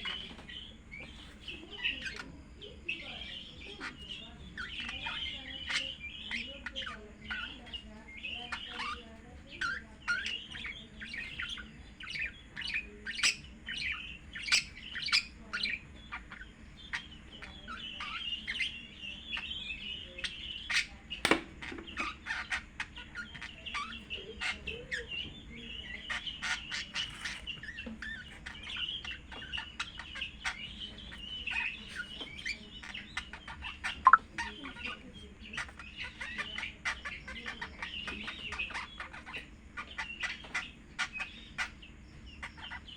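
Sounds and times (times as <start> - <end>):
birds chirping and squawking: 0.0 - 42.9.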